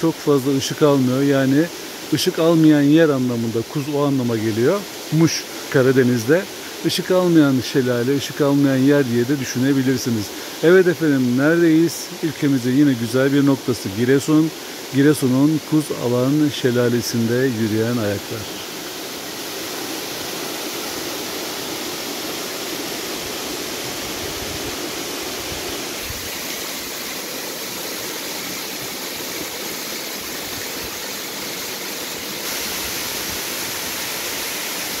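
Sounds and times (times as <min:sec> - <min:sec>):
waterfall splashing down rock: 0:00.1 - 0:35.0.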